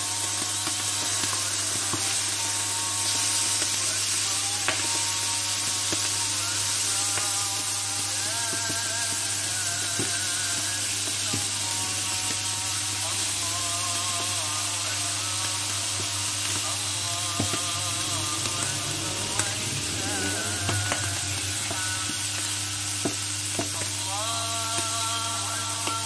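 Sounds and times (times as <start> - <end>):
meat sizzling on griddle: 0.0 - 26.0.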